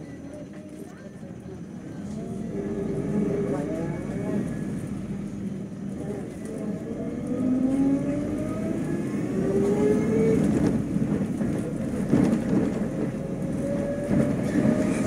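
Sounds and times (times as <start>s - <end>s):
bus engine rumble with rising whine: 0.0s - 15.0s.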